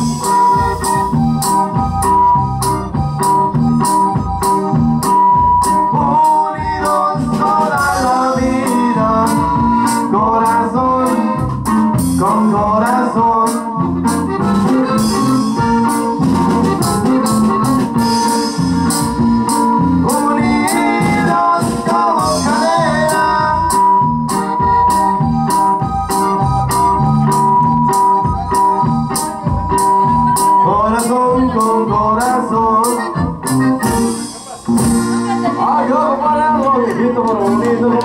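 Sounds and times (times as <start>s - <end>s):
accordion melody: 0.0s - 38.0s
bass: 0.0s - 38.0s
steady drum beat: 0.0s - 38.0s.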